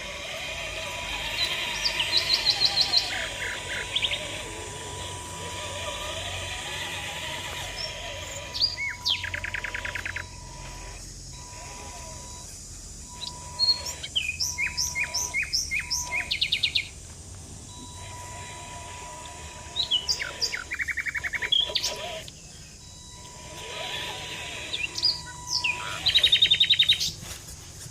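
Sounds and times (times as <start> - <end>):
songbird singing: 0.0 - 27.4
faint steady high tone: 1.2 - 17.0, 17.6 - 27.0.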